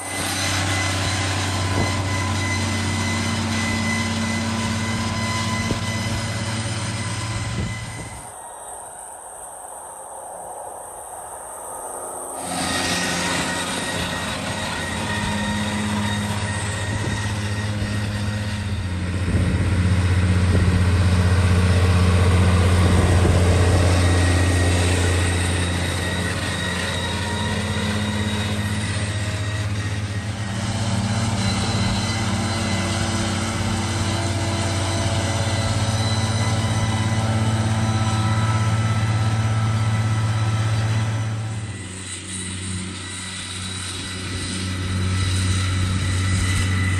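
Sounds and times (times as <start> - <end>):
tractor diesel engine running: 0.0 - 8.4, 12.1 - 46.9.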